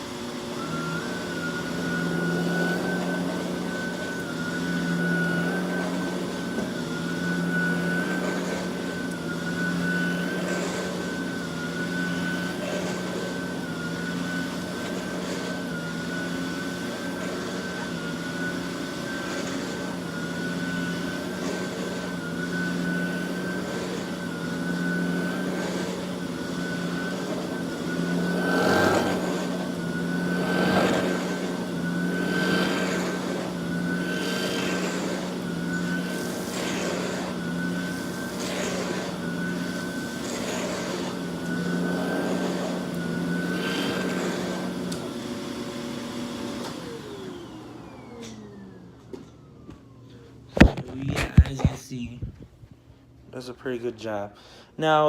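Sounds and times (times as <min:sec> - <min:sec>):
vacuum nozzle rushing noise: 0:00.0 - 0:48.8
vacuum cleaner motor whine: 0:00.0 - 0:52.4.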